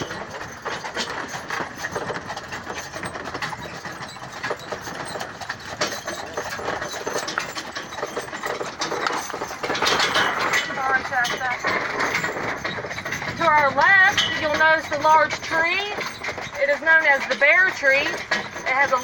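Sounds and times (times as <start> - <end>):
carriage rattling and clattering: 0.0 - 19.0
horse hoofbeats: 0.0 - 19.0.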